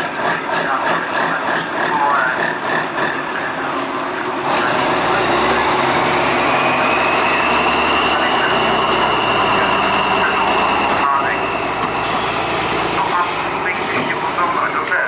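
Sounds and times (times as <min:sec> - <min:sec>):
truck diesel engine under load: 0:00.0 - 0:15.0.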